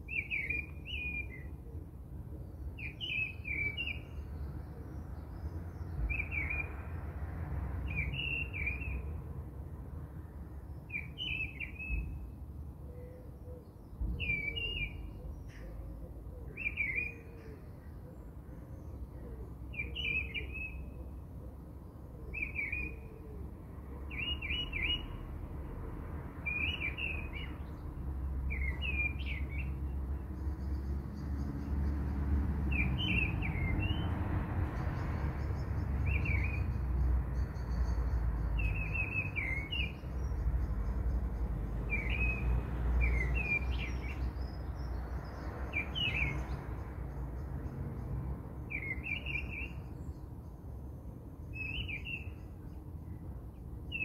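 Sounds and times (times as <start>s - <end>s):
bird chirping: 0.0s - 1.6s, 2.4s - 6.9s, 7.8s - 9.2s, 10.6s - 21.2s, 21.8s - 23.2s, 24.0s - 25.3s, 26.4s - 50.6s, 51.4s - 54.0s.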